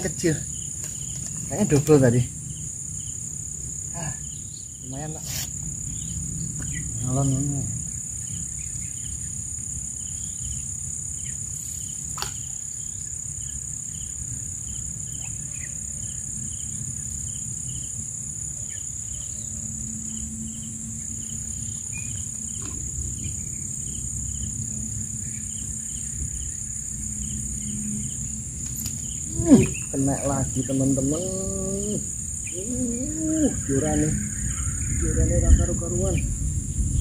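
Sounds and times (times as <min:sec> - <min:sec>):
high-pitched insect buzz: 0:00.0 - 0:37.0
insect chirping: 0:00.0 - 0:37.0.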